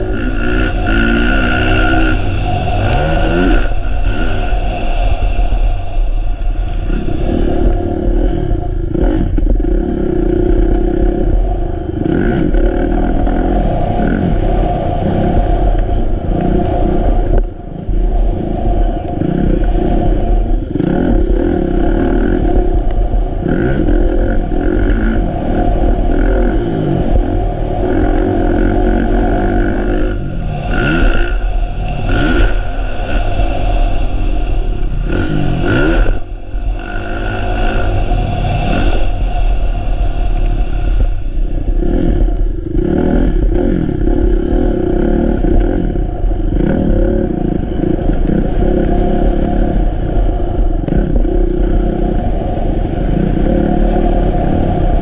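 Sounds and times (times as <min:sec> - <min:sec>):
motorcycle engine revving: 0:00.0 - 0:04.8, 0:06.4 - 0:18.1, 0:19.0 - 0:55.0.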